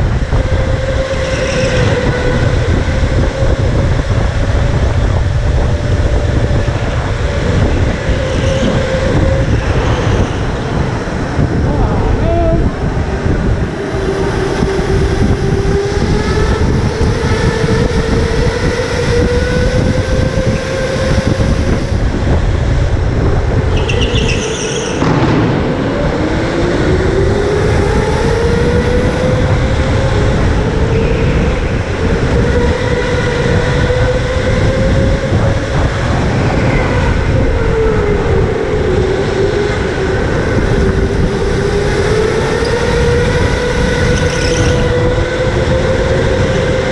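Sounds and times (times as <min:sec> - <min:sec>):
low kart rumble: 0:00.0 - 0:46.9.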